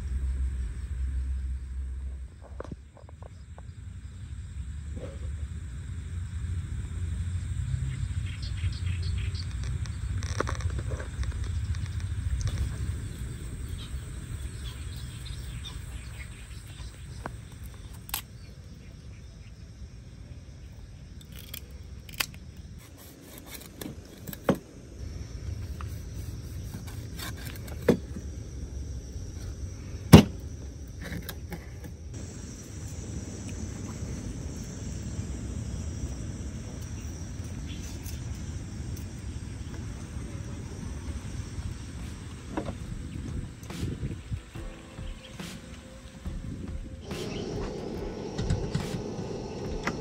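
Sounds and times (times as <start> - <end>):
insect drone: 0.0 - 50.0
low wind rumble: 0.0 - 50.0.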